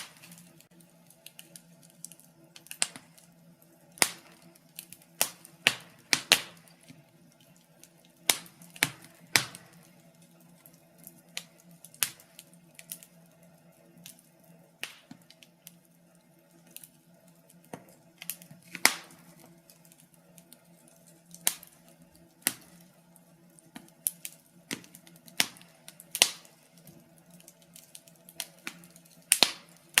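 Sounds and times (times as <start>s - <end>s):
faint steady low hum: 0.0s - 30.0s
wood fire crackling: 0.0s - 30.0s.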